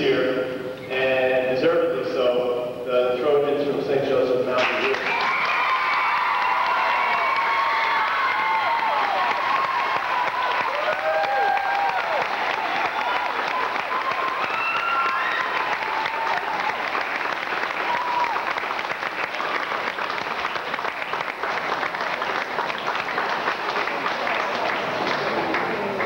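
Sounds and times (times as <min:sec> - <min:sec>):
crowd applauding: 0:04.6 - 0:26.0.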